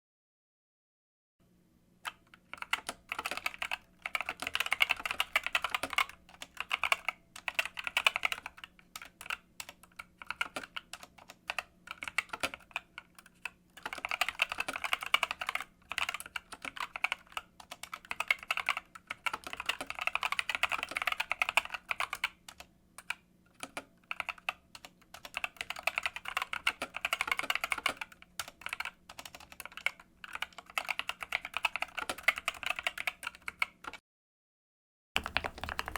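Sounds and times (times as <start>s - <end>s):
fast keyboard typing: 2.1s - 34.0s, 35.2s - 35.9s.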